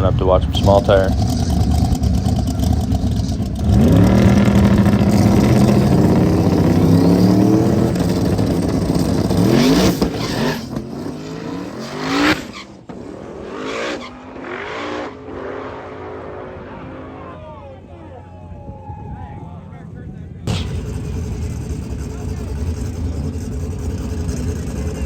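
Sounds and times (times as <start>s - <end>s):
race car engine: 0.0s - 25.0s.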